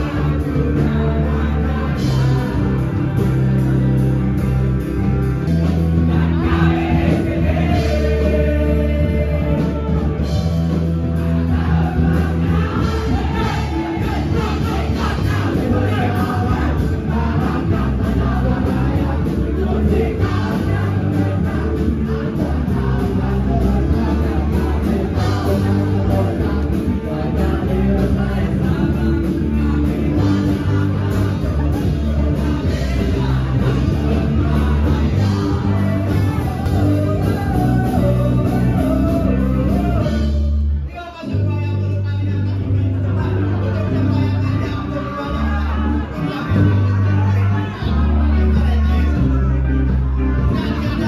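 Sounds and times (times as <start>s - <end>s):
loud music with singing: 0.0s - 51.0s.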